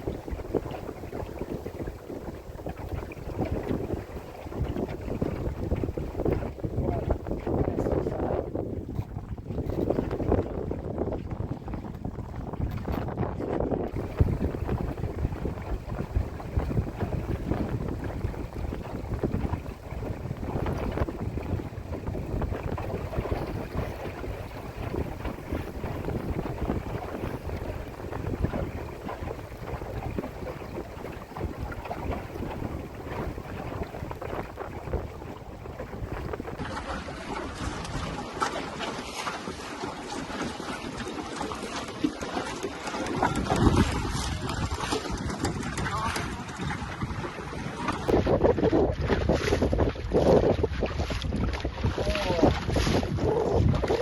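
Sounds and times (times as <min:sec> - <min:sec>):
wind buffeting microphone: 0:00.0 - 0:39.4, 0:42.6 - 0:54.0
water rushing along boat hull: 0:00.0 - 0:54.0.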